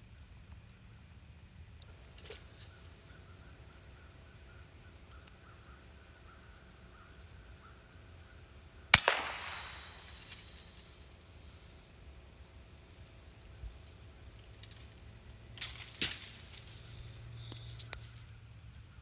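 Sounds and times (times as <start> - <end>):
light clicks: 1.8 - 18.1
rustle: 1.8 - 19.0
air rifle shot: 1.9 - 17.2.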